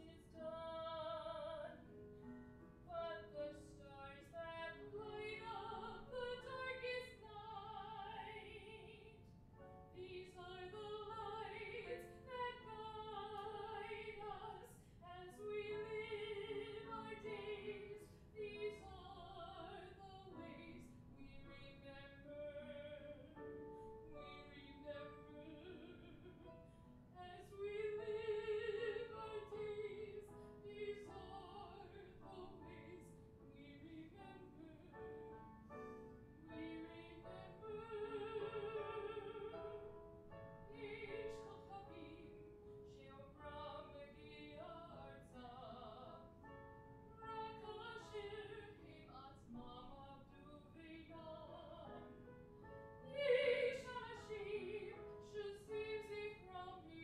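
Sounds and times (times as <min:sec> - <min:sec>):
woman singing operatically: 0:00.0 - 0:01.8, 0:02.9 - 0:09.2, 0:10.0 - 0:23.4, 0:24.2 - 0:26.5, 0:27.2 - 0:34.9, 0:36.4 - 0:39.8, 0:40.7 - 0:46.2, 0:47.2 - 0:52.0, 0:53.1 - 0:57.0.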